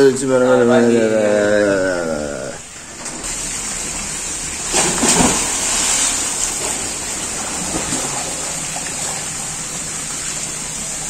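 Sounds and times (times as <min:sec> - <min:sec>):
running water hiss: 0:00.2 - 0:11.0.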